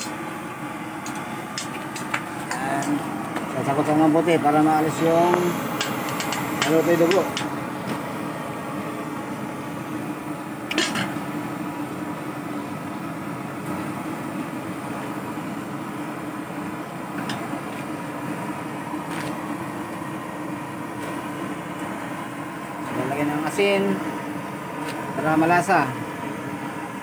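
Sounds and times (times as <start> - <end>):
gas burner rushing: 0.0 - 27.0
low steady hum: 0.0 - 27.0.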